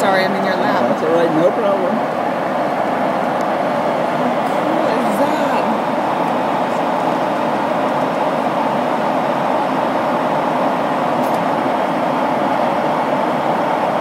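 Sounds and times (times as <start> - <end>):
airliner cabin jet engine hum: 0.0 - 14.0.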